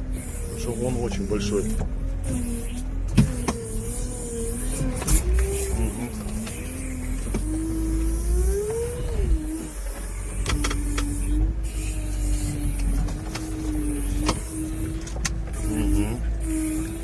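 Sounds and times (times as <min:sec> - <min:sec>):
low engine rumble: 0:00.0 - 0:17.0
steady whine: 0:00.0 - 0:17.0.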